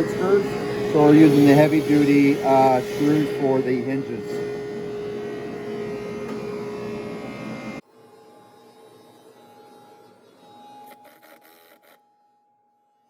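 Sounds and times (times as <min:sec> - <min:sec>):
power drill driving a screw: 0:00.0 - 0:12.0.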